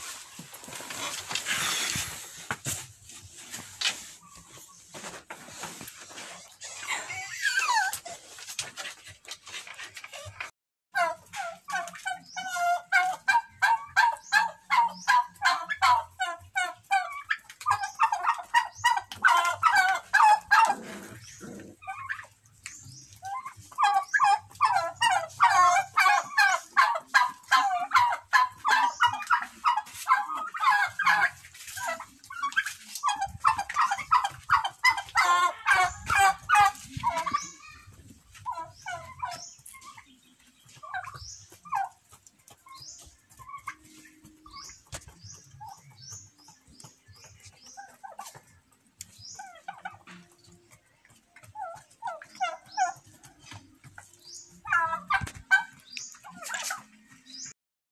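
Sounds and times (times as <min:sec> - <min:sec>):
poultry flock calling: 0:00.0 - 0:57.5.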